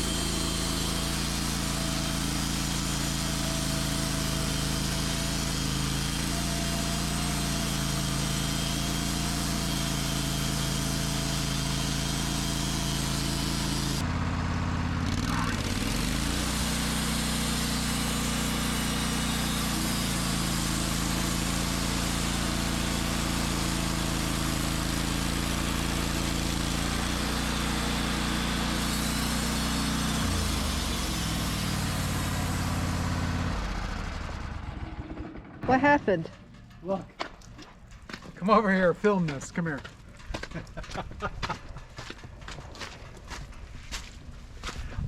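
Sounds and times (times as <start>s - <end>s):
saw blade cutting log: 0.0s - 14.0s, 15.0s - 38.4s
sawmill engine running: 0.0s - 44.9s.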